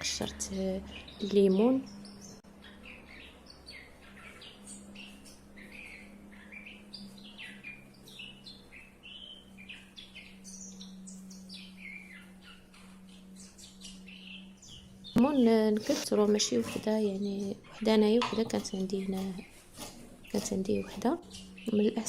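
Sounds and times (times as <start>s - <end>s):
steady low hum: 0.0s - 22.0s
small bird chirping: 0.1s - 22.0s.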